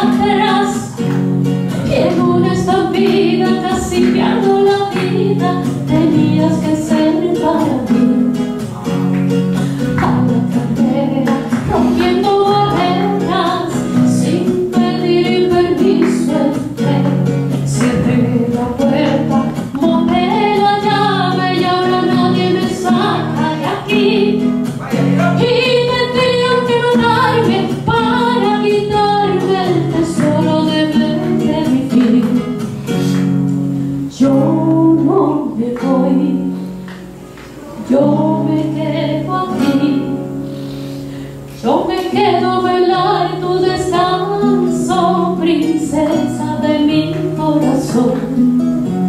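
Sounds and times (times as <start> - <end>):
soprano singing: 0.0 - 1.1, 1.7 - 8.5, 9.6 - 32.6, 34.1 - 36.9, 37.6 - 40.6, 41.5 - 48.6
acoustic guitar: 0.0 - 49.0.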